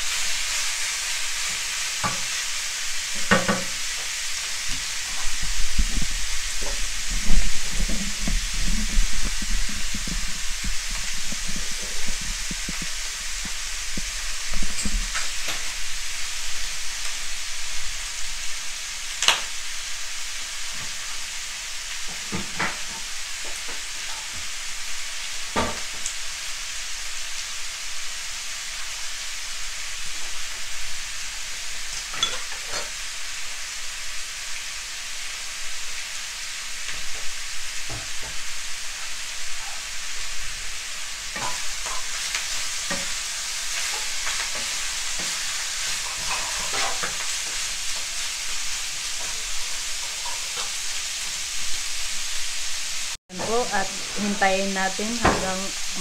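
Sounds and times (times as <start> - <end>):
meat sizzling in a frying pan: 0.0 - 56.0.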